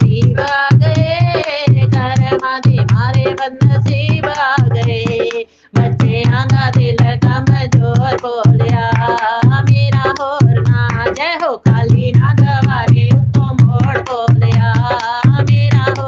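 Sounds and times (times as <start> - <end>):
person singing devotional song: 0.0 - 16.0
steady drum rhythm: 0.0 - 16.0.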